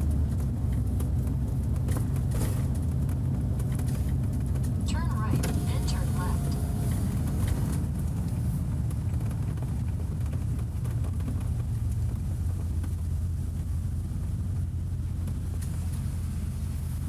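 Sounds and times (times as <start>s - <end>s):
vehicle driving on road: 0.0s - 17.0s.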